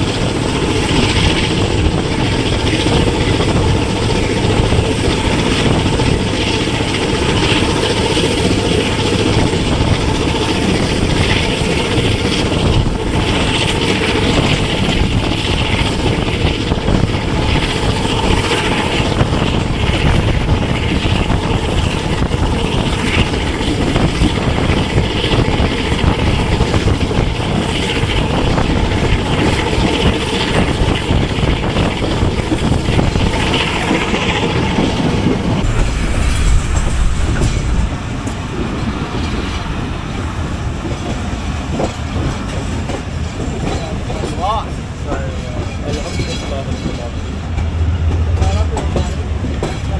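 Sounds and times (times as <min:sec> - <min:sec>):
train running at speed: 0:00.0 - 0:49.9.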